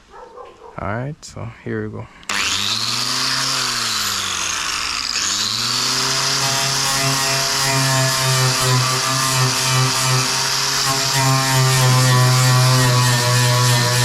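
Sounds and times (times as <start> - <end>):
wire brush tool scouring metal: 2.3 - 14.0.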